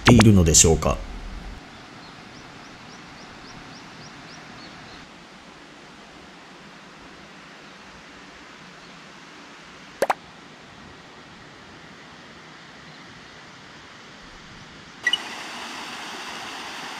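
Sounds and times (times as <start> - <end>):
steady outdoor hiss: 0.0 - 16.9.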